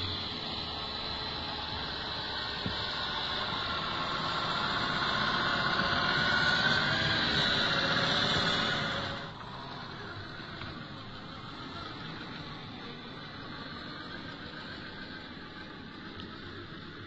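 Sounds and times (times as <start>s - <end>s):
electric motor and gear whine: 0.0s - 17.0s.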